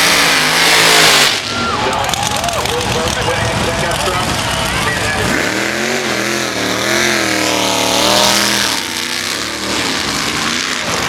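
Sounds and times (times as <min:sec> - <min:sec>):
diesel truck engine accelerating: 0:00.0 - 0:11.0.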